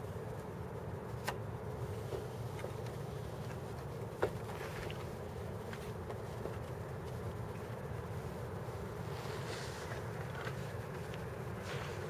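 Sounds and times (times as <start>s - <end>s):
distant city traffic hum: 0.0s - 12.0s.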